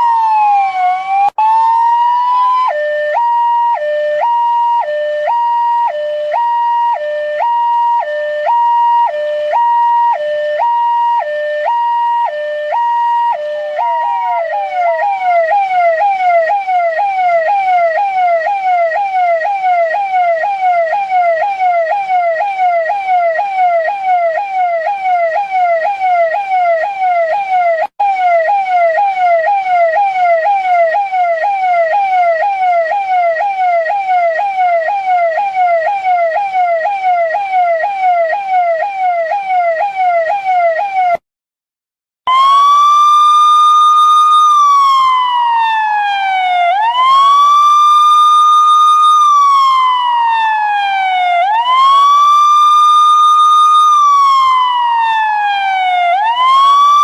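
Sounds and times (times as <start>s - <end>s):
police siren fast yelp: 0.0s - 41.2s, 42.3s - 57.0s
police siren high low tone: 0.0s - 41.2s, 42.3s - 57.0s.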